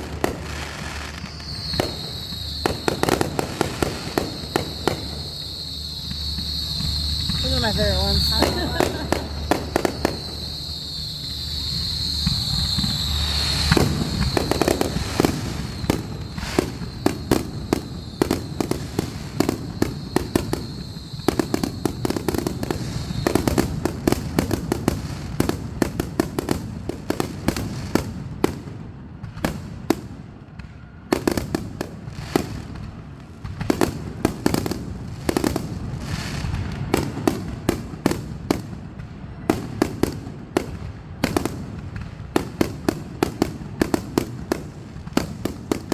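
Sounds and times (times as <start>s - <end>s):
fireworks popping and crackling: 0.0s - 45.9s.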